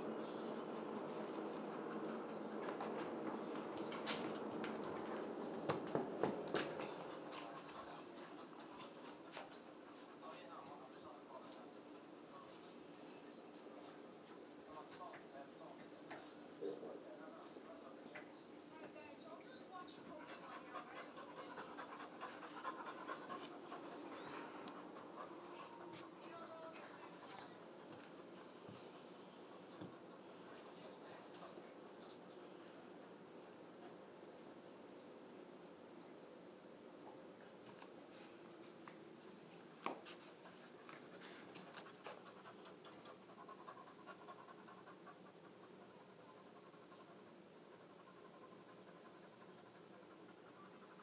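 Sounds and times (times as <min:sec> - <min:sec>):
dog panting: 0:00.0 - 0:36.1, 0:37.1 - 0:51.0.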